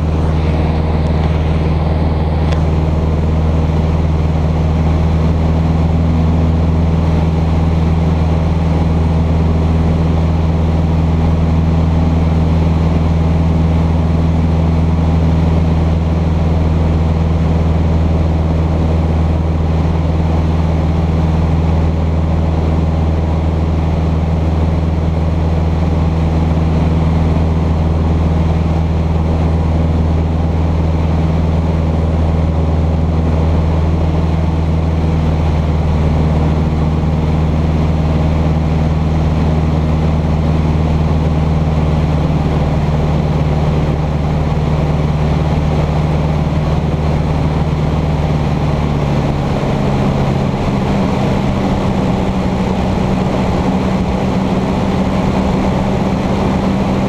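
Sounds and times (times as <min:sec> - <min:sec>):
plane engine and propeller droning: 0:00.0 - 0:57.0.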